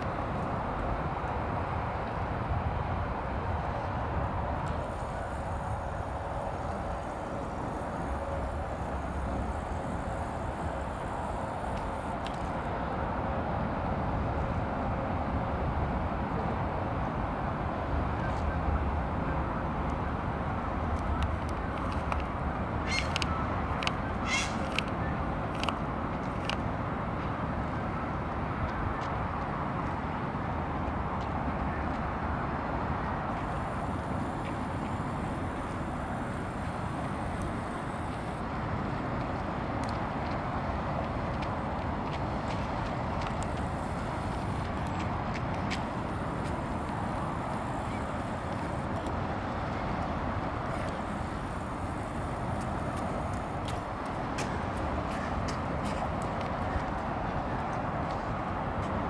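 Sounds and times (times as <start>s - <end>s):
distant traffic rumble: 0.0s - 59.0s.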